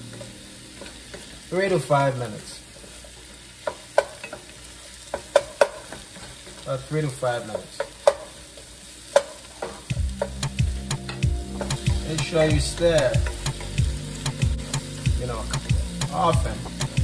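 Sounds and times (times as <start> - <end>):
faint sizzle of frying: 0.0 - 17.0.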